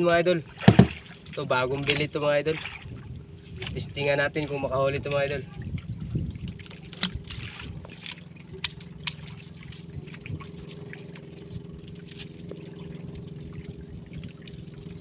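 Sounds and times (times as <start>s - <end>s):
steady low hum: 0.0s - 15.0s
water lapping against boat hull: 0.0s - 15.0s.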